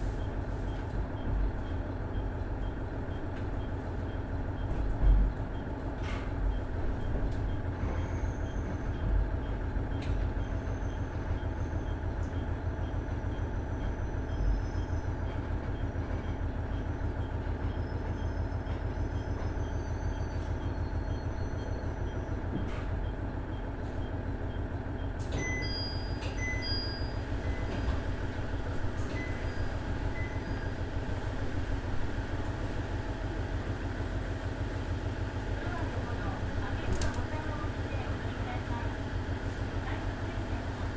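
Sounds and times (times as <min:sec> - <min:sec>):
railcar engine and wheels rumbling: 0:00.0 - 0:40.9.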